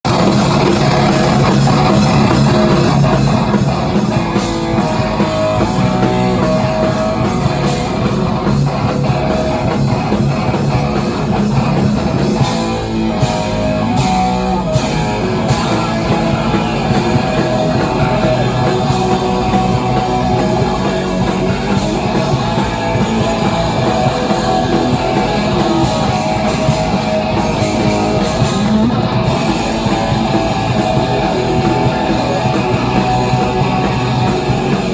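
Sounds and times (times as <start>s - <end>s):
distorted electric guitar: 0.0s - 34.9s
drum kit: 0.0s - 34.9s.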